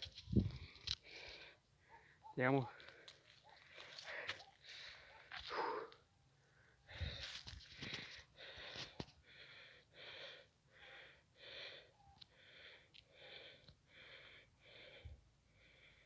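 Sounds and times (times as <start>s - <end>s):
person panting hard: 0.5s - 16.0s.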